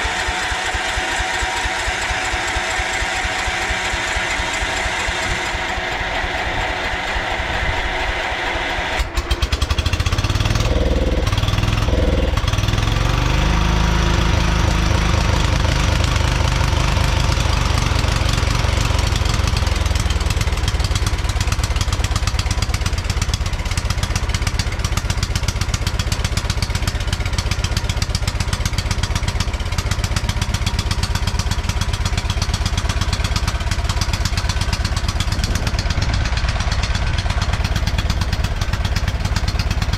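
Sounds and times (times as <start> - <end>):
riding lawn mower engine running: 0.0 - 39.9.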